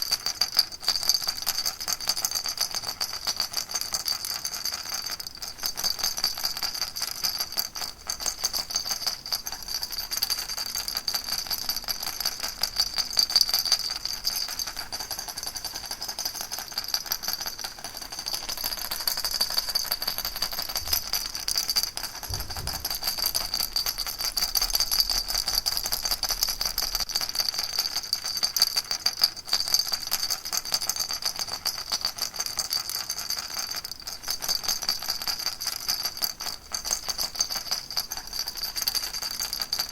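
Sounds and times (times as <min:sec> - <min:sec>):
baby rattle shaken: 0:00.0 - 0:32.1, 0:32.7 - 0:39.9.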